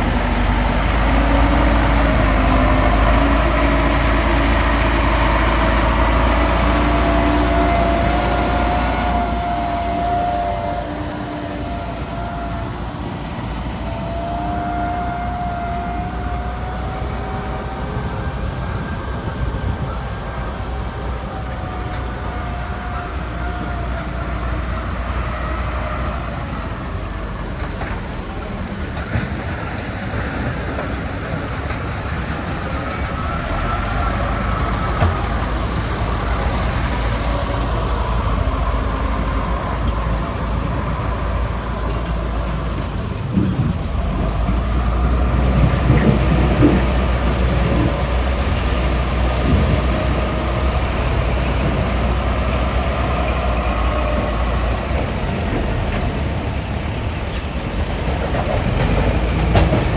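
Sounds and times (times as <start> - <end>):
wavering whine: 0.0 - 29.2, 32.2 - 59.9
heavy machinery running: 0.0 - 59.9.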